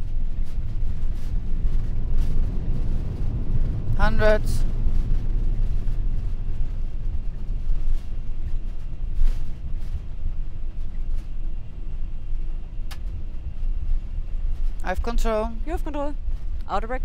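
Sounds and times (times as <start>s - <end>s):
jet engines and wheels rumbling: 0.0s - 17.0s.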